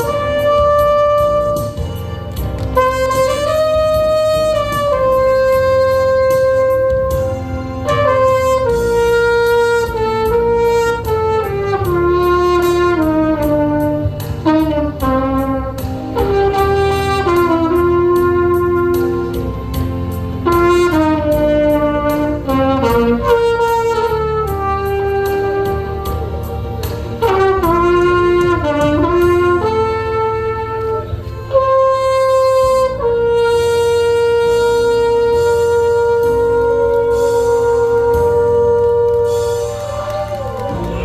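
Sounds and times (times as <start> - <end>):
backing track music: 0.0 - 41.0
trumpet melody: 0.0 - 41.0.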